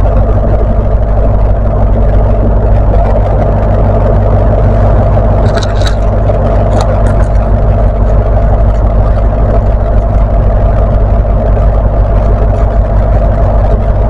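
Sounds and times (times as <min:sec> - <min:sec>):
diesel train engine humming: 0:00.0 - 0:14.0.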